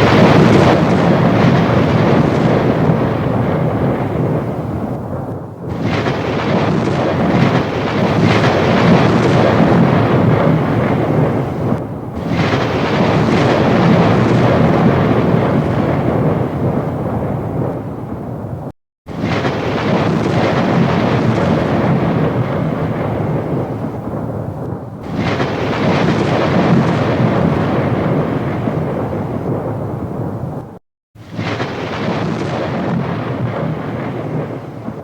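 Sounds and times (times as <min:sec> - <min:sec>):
rolling thunder: 0:00.0 - 0:35.0.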